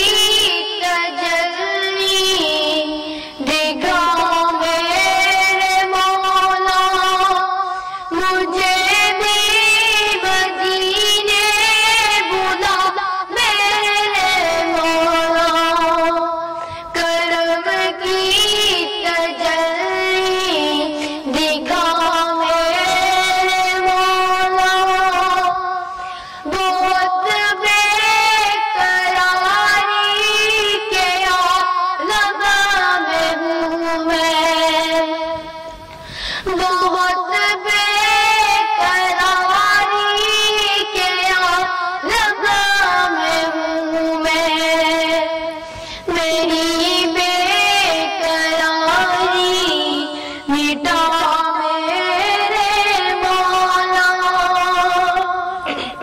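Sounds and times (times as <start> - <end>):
boy singing devotional song: 0.0 - 56.0.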